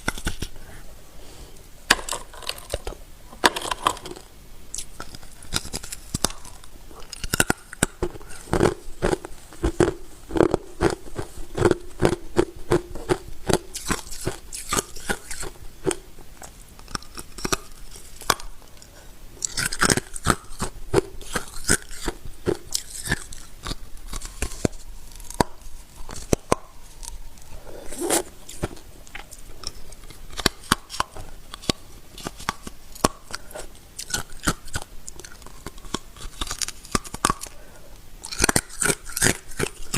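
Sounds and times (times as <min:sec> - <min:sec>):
ice being chewed: 0:03.6 - 0:18.5, 0:19.4 - 0:37.6, 0:38.2 - 0:39.9.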